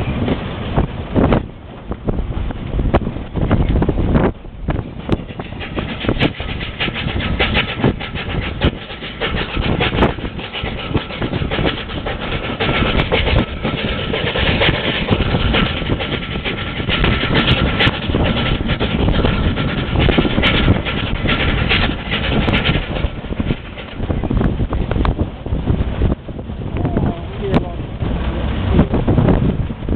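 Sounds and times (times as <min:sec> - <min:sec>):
tram rumbling on track: 0:00.0 - 0:29.9.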